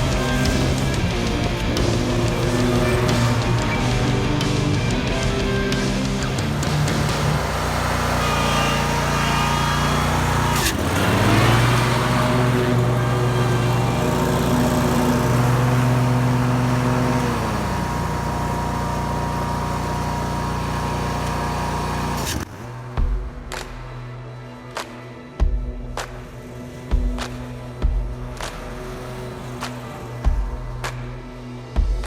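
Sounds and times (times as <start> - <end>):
engine running: 0.0 - 32.0.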